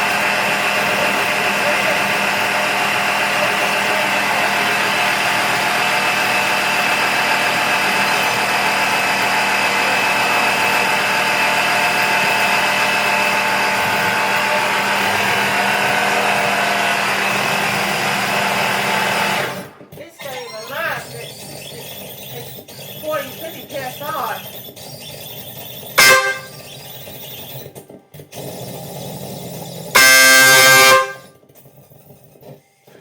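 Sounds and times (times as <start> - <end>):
air compressor motor humming: 0.0 - 33.0.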